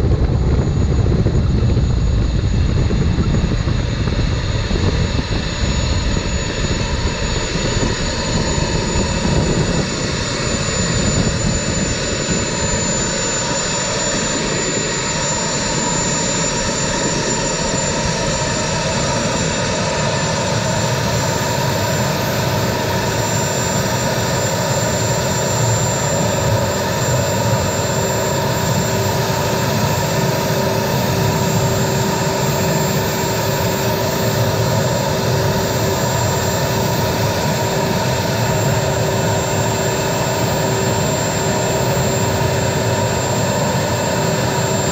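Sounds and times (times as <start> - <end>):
turbine engine whine: 0.0 - 44.9.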